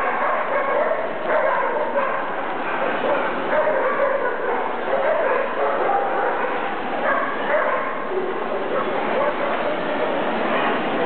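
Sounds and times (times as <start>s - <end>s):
many dogs barking: 0.0s - 11.0s.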